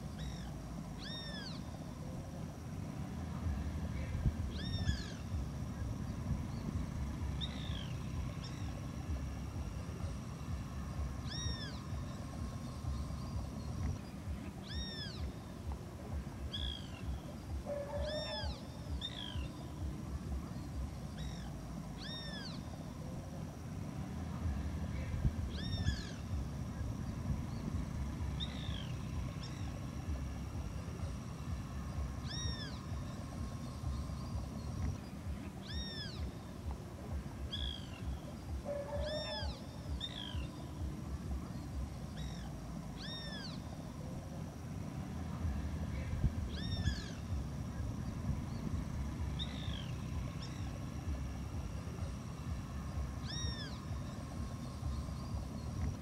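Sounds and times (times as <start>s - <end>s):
bird calling: 0.0s - 56.0s
steady low rumble: 0.0s - 56.0s.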